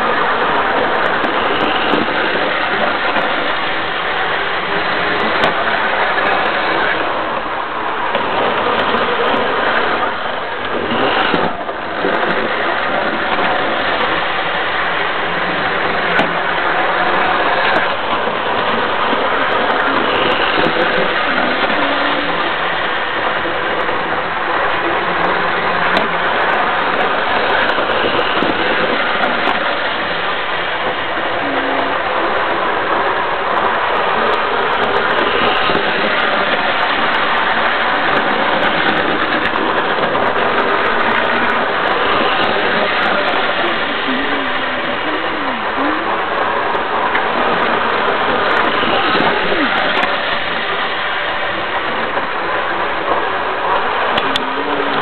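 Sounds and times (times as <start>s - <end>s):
model train motor whirr: 0.0s - 55.0s
wheel and rail noise: 0.0s - 55.0s.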